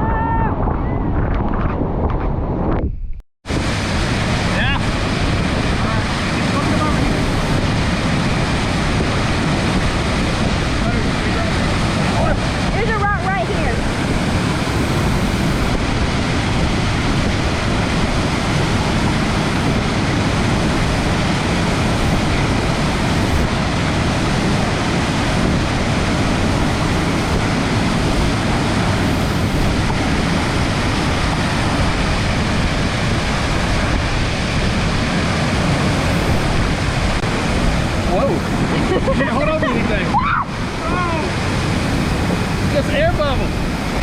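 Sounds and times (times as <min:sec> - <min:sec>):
waterfall rushing: 0:03.5 - 0:44.0.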